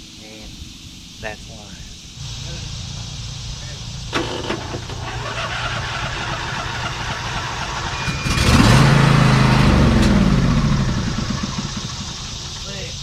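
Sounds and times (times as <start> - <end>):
lawn mower engine running: 2.2 - 13.0.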